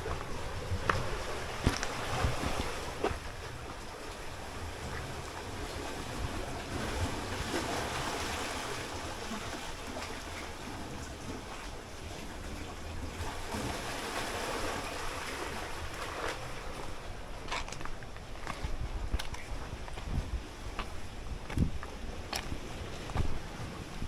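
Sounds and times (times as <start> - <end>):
sea waves washing among rocks: 0.0 - 24.0
wind rumble on microphone: 0.0 - 24.0.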